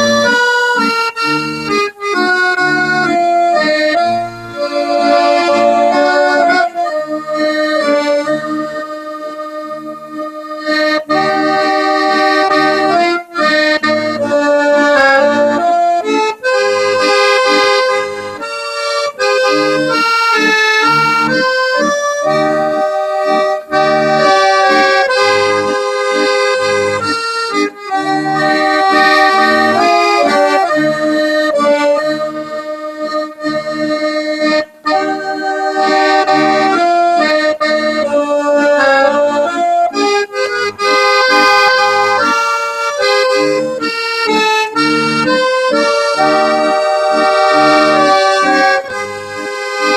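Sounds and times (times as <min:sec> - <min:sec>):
lively accordion music: 0:00.0 - 0:49.9.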